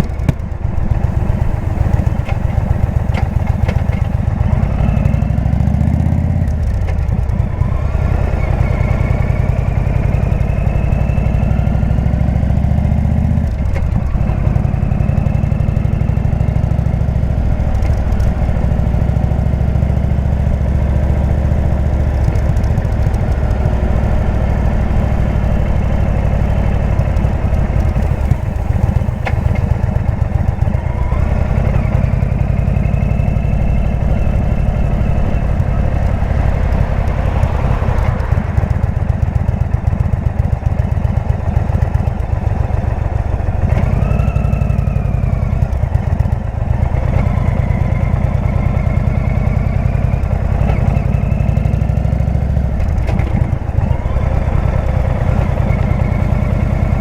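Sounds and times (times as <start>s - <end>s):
motorcycle engine pulsing: 0.0s - 57.0s.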